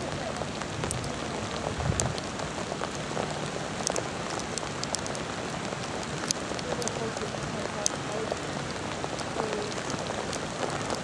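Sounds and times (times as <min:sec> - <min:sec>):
raindrops pattering close by: 0:00.0 - 0:11.0
steady rain falling: 0:00.0 - 0:11.0.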